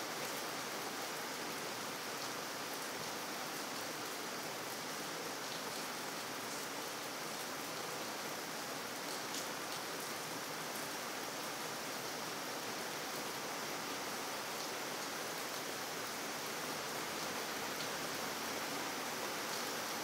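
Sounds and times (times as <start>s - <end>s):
rain falling on pavement: 0.0s - 20.0s.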